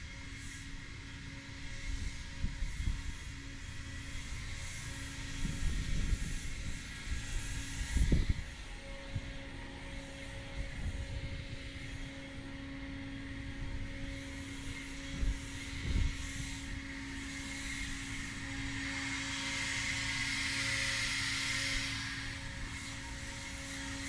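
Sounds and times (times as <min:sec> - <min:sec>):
electric motor hum: 0:02.4 - 0:24.0.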